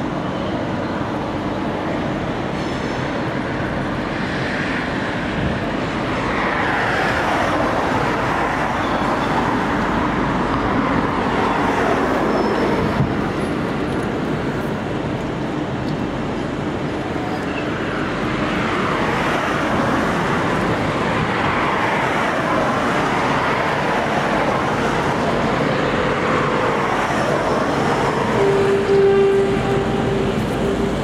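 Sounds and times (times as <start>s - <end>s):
train passing: 0.0s - 31.0s
train whines: 0.0s - 31.0s.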